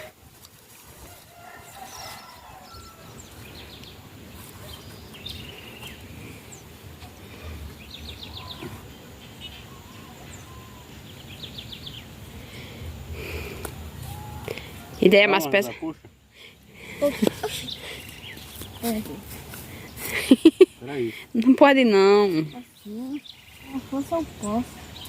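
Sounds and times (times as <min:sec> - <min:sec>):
birds trilling and chirping: 0:00.0 - 0:25.0
steady outdoor noise: 0:00.0 - 0:25.0.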